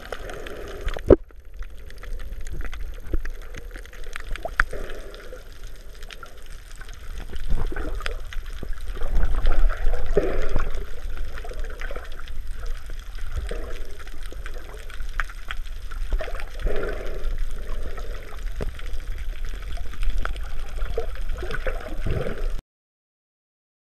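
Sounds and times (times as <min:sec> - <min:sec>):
constant low rumble: 0:00.0 - 0:22.6
small underwater clicks: 0:00.0 - 0:22.6
underwater sloshing and gurgling: 0:00.0 - 0:22.6.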